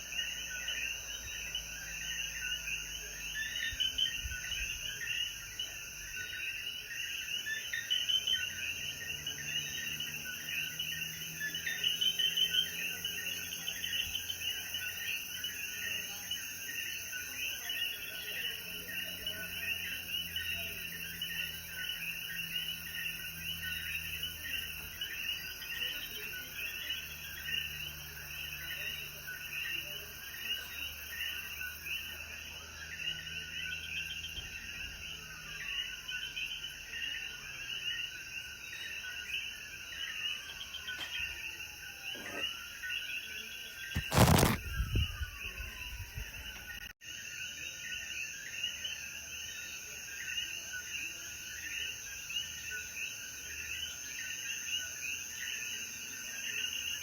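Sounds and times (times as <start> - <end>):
frogs calling: 0.0 - 57.0.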